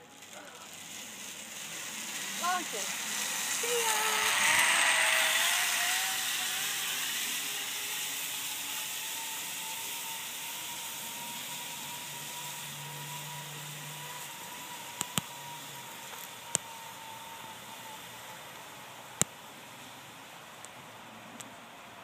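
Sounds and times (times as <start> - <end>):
zip line pulley whirring: 0.0 - 20.6.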